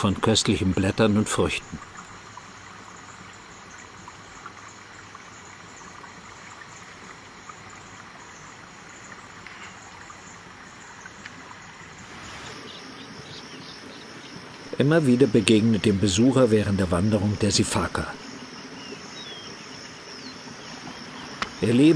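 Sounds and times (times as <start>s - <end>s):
stream flowing: 0.0s - 21.9s.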